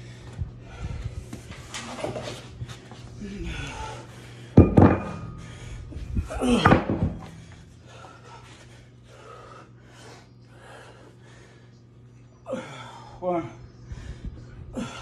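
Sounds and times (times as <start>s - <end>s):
man breathing hard: 0.0s - 1.6s, 3.0s - 15.0s.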